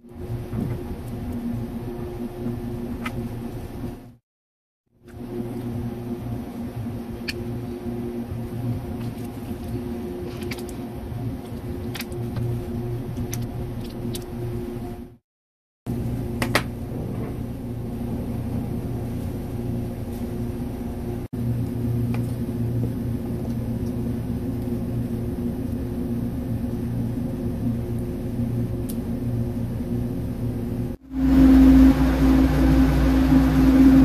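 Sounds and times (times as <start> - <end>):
low machine hum: 0.0 - 4.2, 5.1 - 15.2, 15.9 - 34.0.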